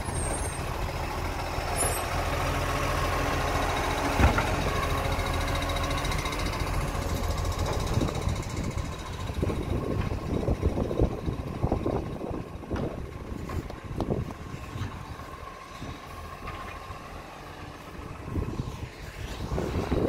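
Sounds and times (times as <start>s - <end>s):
garbage truck engine running: 0.0s - 20.0s.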